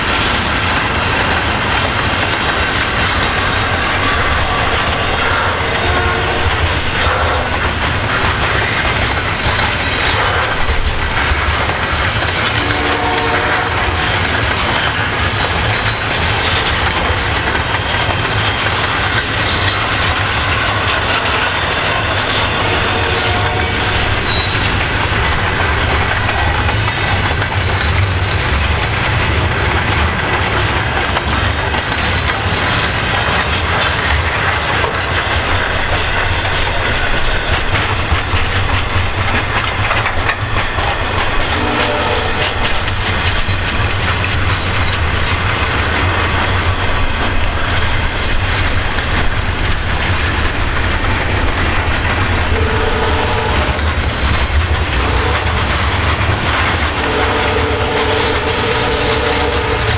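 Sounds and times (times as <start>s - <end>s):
freight train rumble and clatter: 0.0s - 59.9s.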